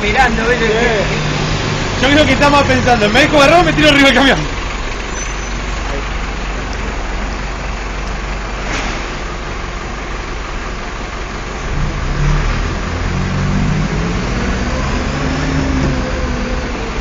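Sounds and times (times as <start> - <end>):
street noise: 0.0 - 17.0
vehicle engine running: 0.0 - 17.0.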